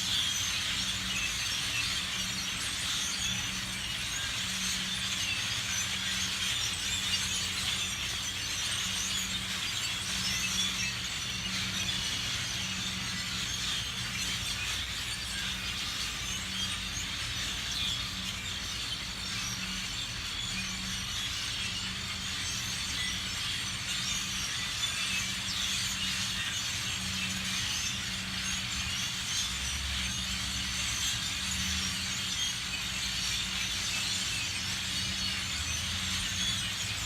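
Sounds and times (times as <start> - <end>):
flock of birds chirping: 0.0 - 37.0.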